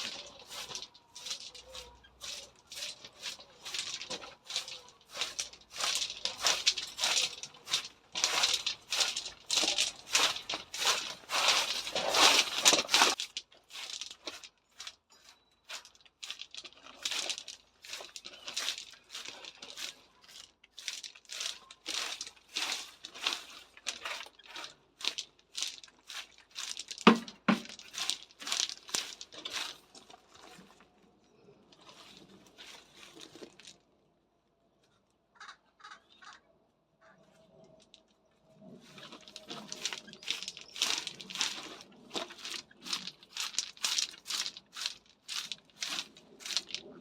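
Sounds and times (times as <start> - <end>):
leaves rustling and crackling: 0.0 - 15.0, 15.7 - 30.8, 38.6 - 47.0.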